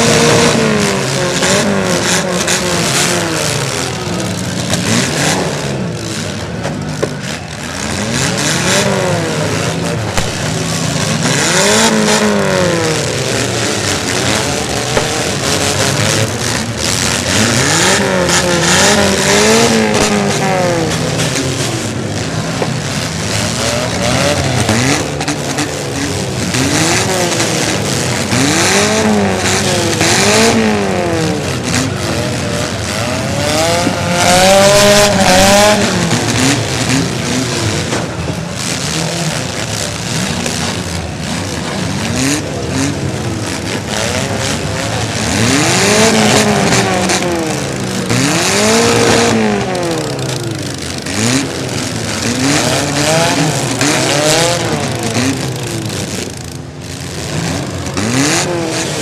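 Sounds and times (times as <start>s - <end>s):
car engines revving: 0.0s - 59.0s
steady rush of noise: 0.0s - 59.0s.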